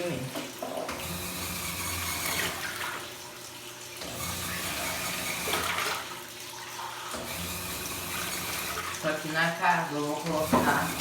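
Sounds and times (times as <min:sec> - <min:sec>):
washing machine motor humming: 0:00.0 - 0:11.0
water sloshing in drum: 0:01.8 - 0:11.0.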